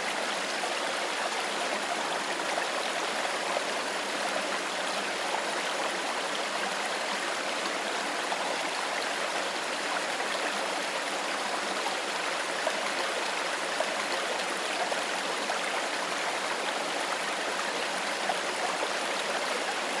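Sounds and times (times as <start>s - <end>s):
stream running over stones: 0.0s - 20.0s.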